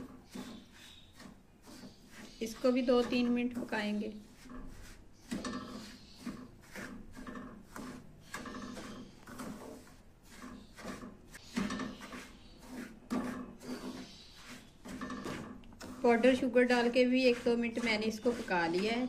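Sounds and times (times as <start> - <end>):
metal spatula scraping a steel pan: 0.0 - 19.0.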